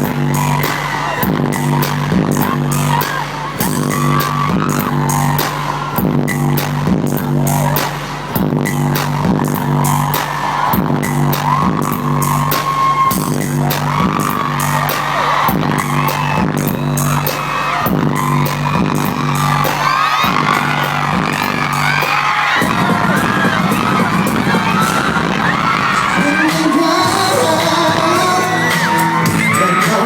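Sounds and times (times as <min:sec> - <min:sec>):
audience screaming and whooping: 0:00.0 - 0:30.0
loud live pop music: 0:00.0 - 0:30.0.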